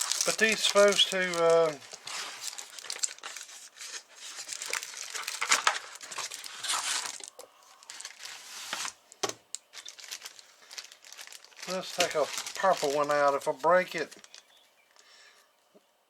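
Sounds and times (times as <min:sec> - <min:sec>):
packaging crinkling and rustling: 0:00.0 - 0:15.1.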